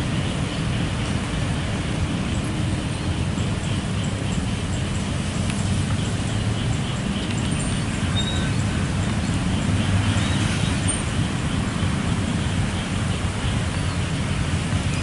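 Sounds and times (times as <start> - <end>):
traffic noise: 0.0 - 15.0.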